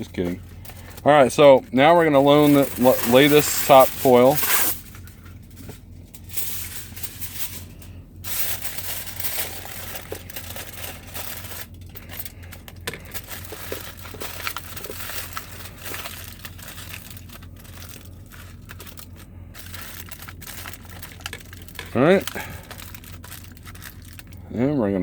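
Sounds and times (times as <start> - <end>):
steady low hum: 0.0 - 25.0
aluminium foil crinkling: 0.1 - 24.4.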